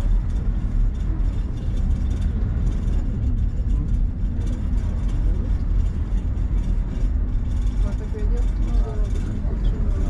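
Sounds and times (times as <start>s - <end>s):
cable car cabin rumble: 0.0s - 10.0s.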